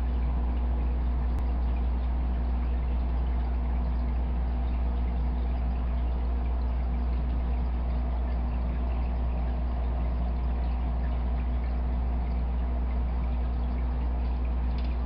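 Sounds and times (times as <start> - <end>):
low hum of aquarium pump: 0.0 - 15.0
water trickling: 0.0 - 15.0.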